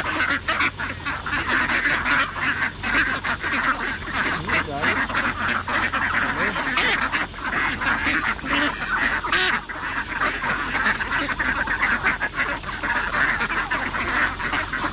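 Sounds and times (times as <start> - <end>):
ducks quacking: 0.0 - 14.9.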